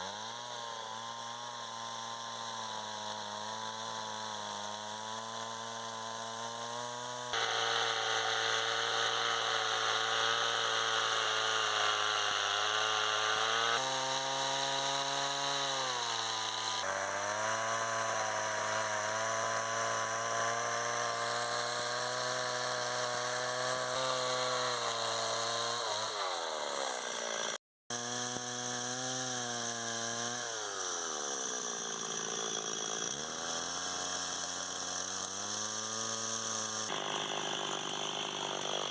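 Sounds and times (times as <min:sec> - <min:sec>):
power tool motor running: 0:00.0 - 0:38.9.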